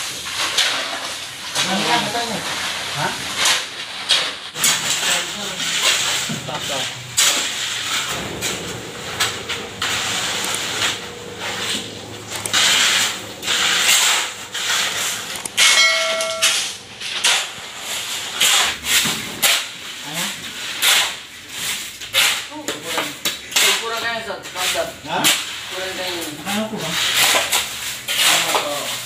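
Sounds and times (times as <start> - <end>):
shovel scraping cement mix: 0.0 - 15.7, 16.5 - 29.0.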